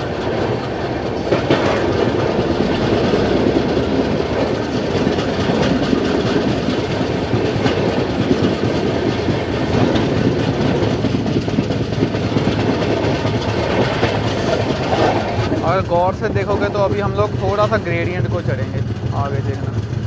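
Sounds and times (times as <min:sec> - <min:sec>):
clicks over rail joints: 0:00.0 - 0:20.0
train wheels rumbling on rails: 0:00.0 - 0:20.0.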